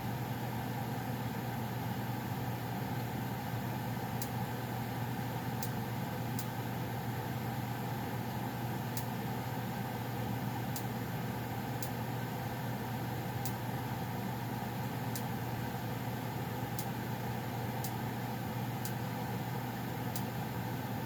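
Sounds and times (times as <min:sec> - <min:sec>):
furnace blower hum: 0:00.0 - 0:21.0.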